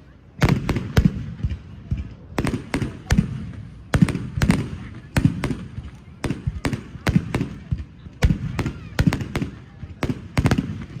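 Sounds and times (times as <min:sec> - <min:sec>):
fireworks bursting: 0:00.4 - 0:11.0.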